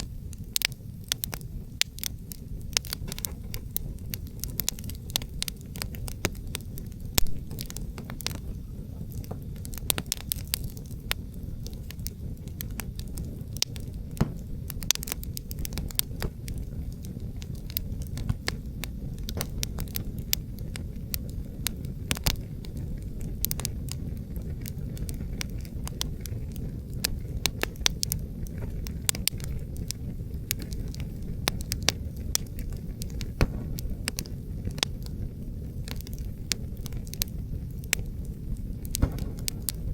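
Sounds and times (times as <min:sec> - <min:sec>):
low wind rumble: 0:00.0 - 0:39.9
wood fire crackling and popping: 0:00.0 - 0:39.9.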